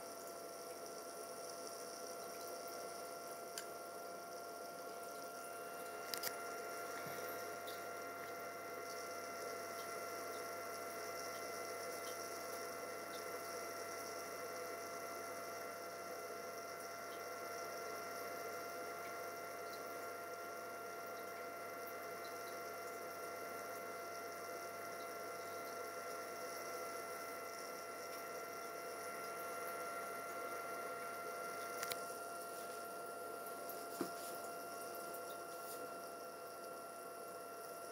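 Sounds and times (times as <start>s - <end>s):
steady electrical hum: 0.0s - 37.9s.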